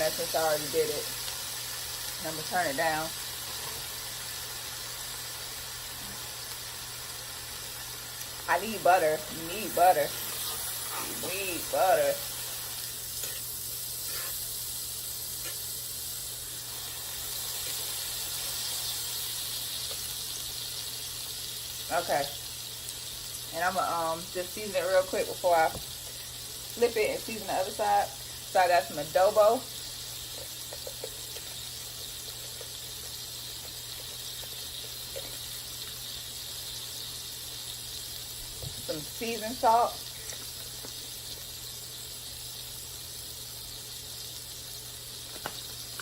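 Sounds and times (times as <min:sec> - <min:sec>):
steak sizzling in a hot pan: 0:00.0 - 0:46.0.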